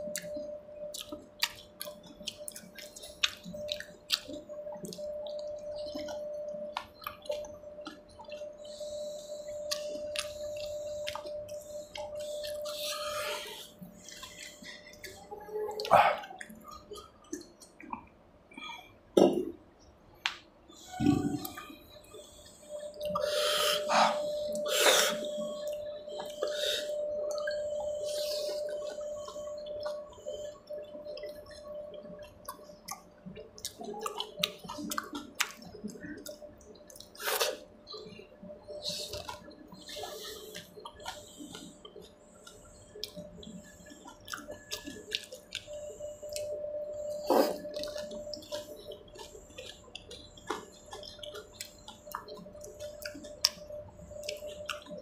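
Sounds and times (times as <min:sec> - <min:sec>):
thin steady tone: 0:00.0 - 0:55.0.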